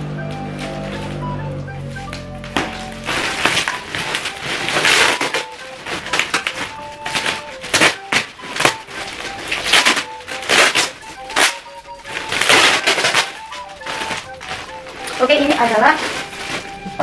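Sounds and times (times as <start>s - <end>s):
soft background music: 0.0s - 17.0s
plastic bags crinkling: 0.4s - 17.0s.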